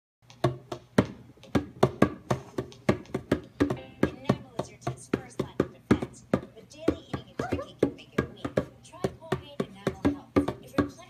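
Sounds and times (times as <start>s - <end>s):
bongo drums slapped: 0.2s - 11.0s.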